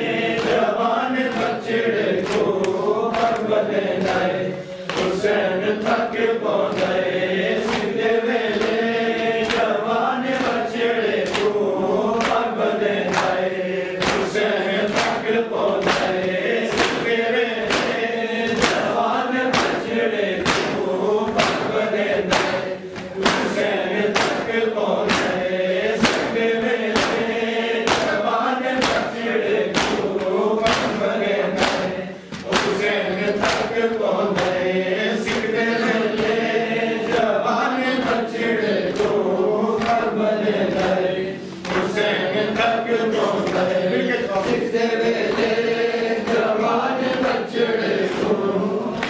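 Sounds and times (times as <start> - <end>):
men chanting together: 0.0 - 49.0
chest-beating slaps: 0.1 - 37.3, 37.9 - 47.4.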